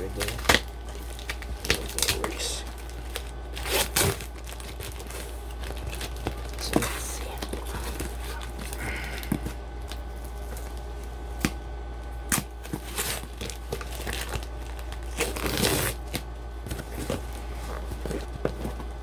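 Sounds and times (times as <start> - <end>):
packaging crinkling and tearing: 0.0 - 11.6, 12.2 - 19.0
packaging rustling: 0.0 - 19.0.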